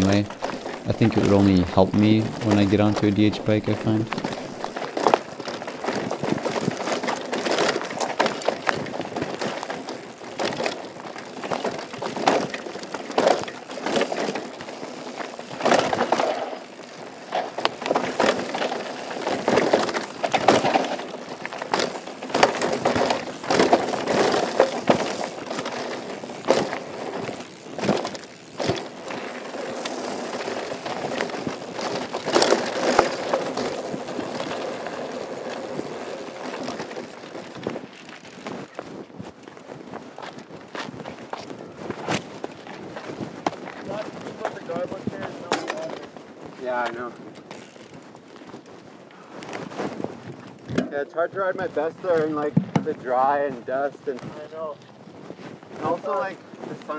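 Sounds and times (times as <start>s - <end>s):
bike rattling and knocking: 0.0s - 56.9s
bike tyres crunching over dirt: 0.0s - 56.9s.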